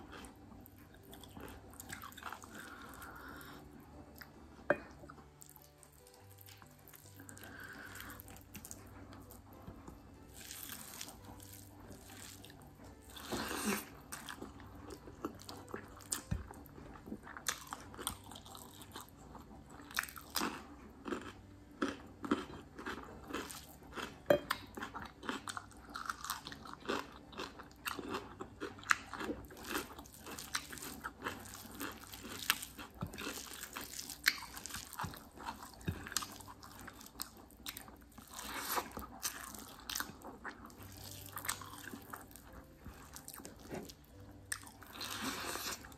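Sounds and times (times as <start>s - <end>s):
chewing with mouth clicks: 0.0s - 45.9s.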